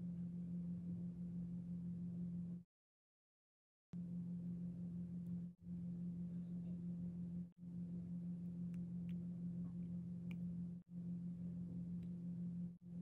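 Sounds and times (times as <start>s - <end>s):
steady low hum: 0.0s - 2.6s, 4.0s - 13.0s.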